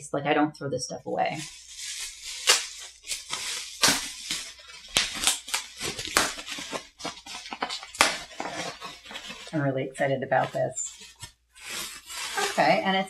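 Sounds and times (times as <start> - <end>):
bubble wrap crinkling: 1.2 - 13.0.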